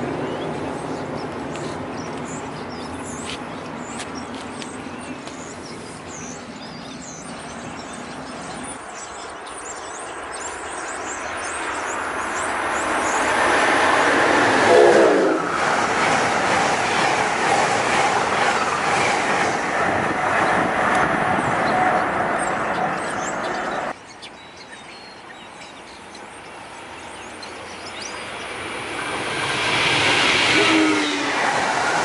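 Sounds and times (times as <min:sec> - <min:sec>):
electric train rumble: 0:00.0 - 0:24.0, 0:26.5 - 0:32.0
train passing at speed: 0:00.0 - 0:24.0, 0:26.0 - 0:32.0.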